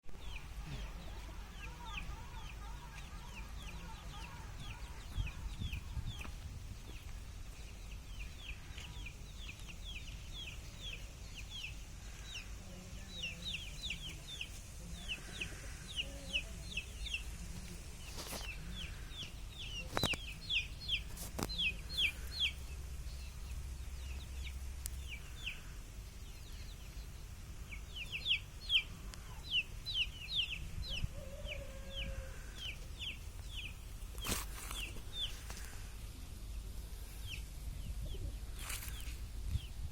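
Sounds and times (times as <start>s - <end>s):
chicks peeping: 0.1s - 39.9s.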